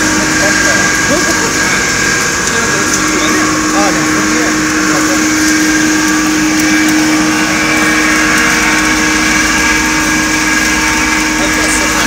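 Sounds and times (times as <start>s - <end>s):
popcorn machine motor hum: 0.0s - 12.0s.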